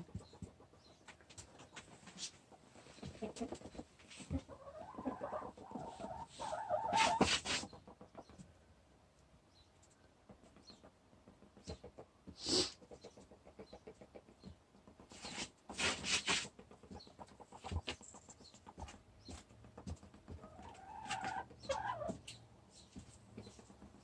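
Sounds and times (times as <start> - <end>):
hens pecking in wood shavings: 0.0 - 8.6, 9.2 - 24.0.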